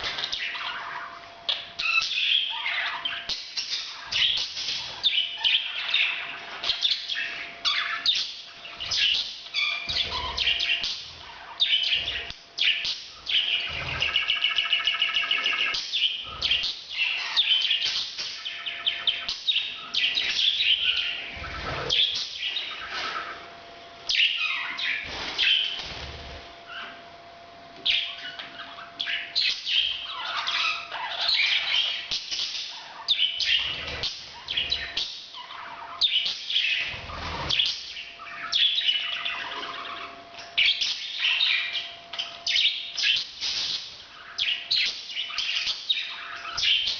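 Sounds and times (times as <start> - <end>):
parrots chirping and chattering: 0.0 - 27.1, 27.8 - 46.9.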